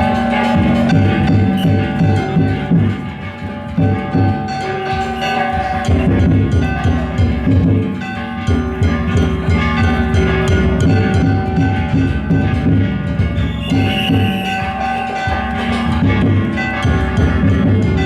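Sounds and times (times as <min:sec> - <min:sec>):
metal gongs ringing: 0:00.0 - 0:18.0
taiko drum beating: 0:00.0 - 0:18.0.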